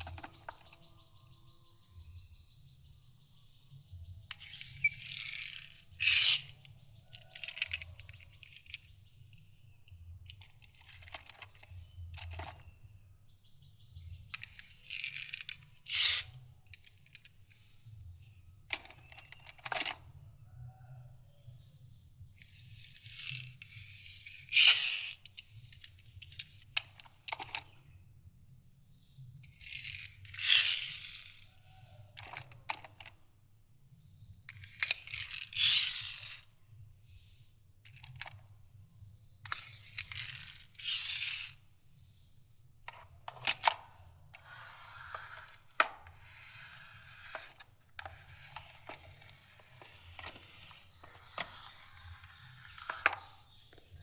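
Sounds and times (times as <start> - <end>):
toy cars scraping on hard surface: 3.4 - 13.0, 14.0 - 54.0.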